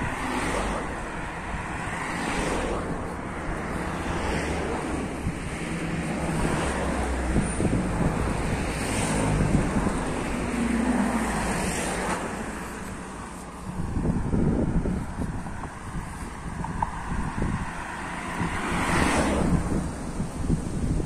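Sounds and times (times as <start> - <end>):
car traffic: 0.0 - 21.0
wind buffeting microphone: 0.0 - 21.0.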